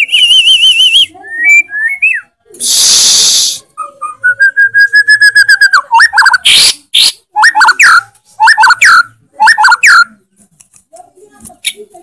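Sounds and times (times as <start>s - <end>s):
bird singing whistled phrases: 0.0s - 10.1s.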